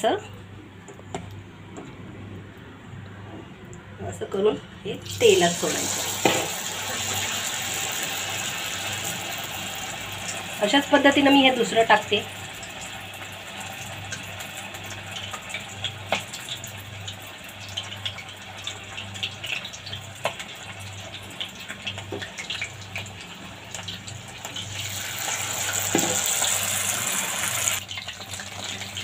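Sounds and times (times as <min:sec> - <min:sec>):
chicken deep-frying in oil: 0:04.9 - 0:29.0.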